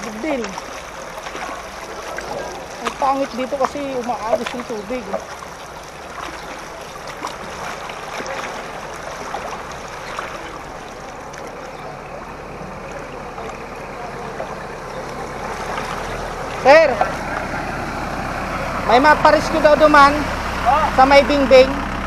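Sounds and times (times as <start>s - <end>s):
faint small splashes: 0.0s - 21.0s
water rushing: 0.0s - 22.0s.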